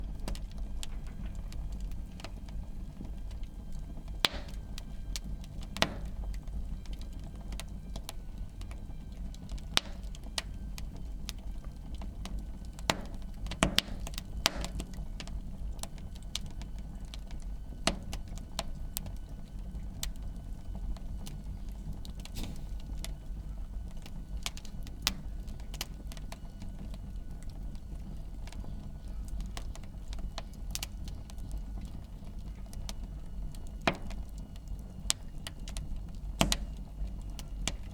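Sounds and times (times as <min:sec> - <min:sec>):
fire low rumble: 0:00.0 - 0:37.9
wood fire crackling and popping: 0:00.0 - 0:37.9.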